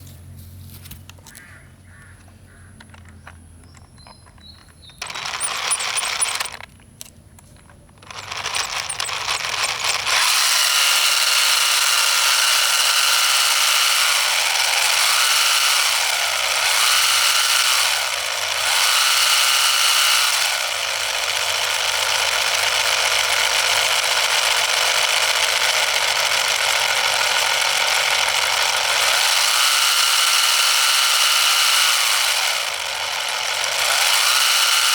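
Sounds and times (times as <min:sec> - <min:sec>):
small diesel engine running: 0:02.8 - 0:34.9.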